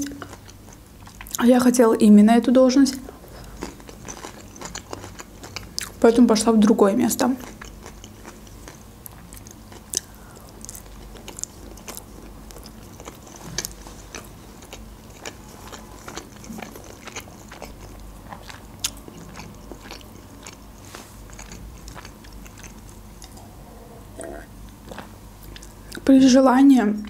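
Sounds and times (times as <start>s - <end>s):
person chewing food: 0.0s - 1.4s, 3.0s - 6.0s, 7.4s - 26.0s.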